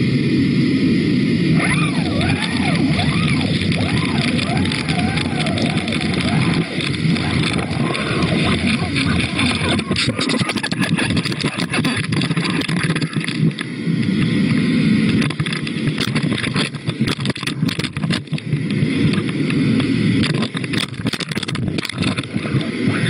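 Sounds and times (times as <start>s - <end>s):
muffled rushing water underwater: 0.0s - 23.0s.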